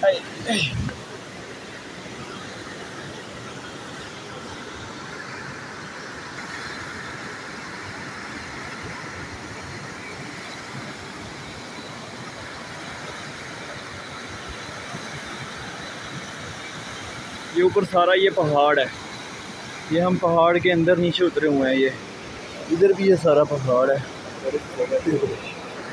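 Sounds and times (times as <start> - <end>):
mountain river rushing: 0.0 - 25.9.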